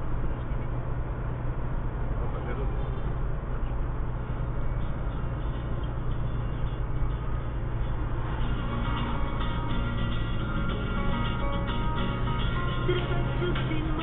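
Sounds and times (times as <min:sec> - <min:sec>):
car engine and tyre rumble: 0:00.0 - 0:14.0
faint music: 0:02.2 - 0:14.0.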